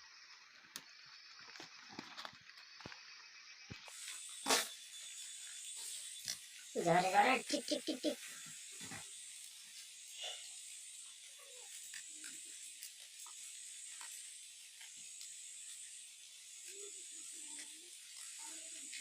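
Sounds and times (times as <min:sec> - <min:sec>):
buzzing insect chorus: 0:00.0 - 0:19.0.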